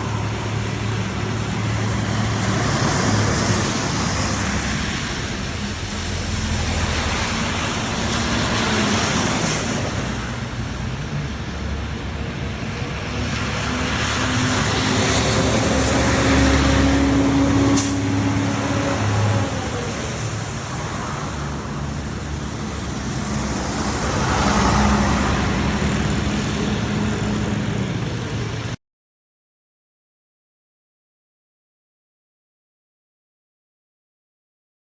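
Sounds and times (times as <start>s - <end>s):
bus diesel engine running: 0.0s - 28.8s
traffic hiss: 0.0s - 28.8s.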